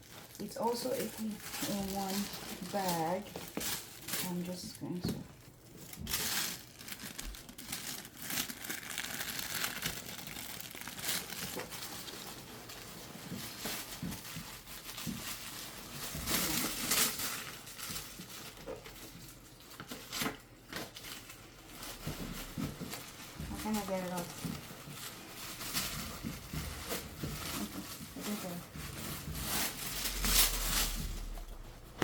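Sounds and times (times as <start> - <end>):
packaging crinkling and rustling: 0.0 - 32.0.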